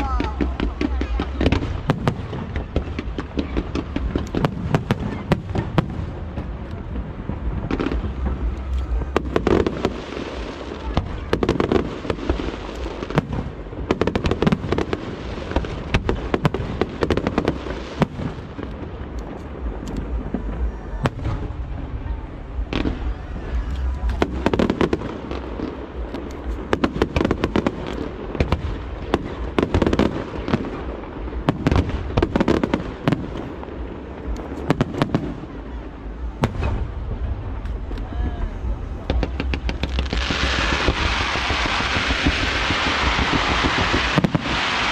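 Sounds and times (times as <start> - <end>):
continuous low rumble: 0.0 - 44.9
fireworks bursting: 0.0 - 44.9.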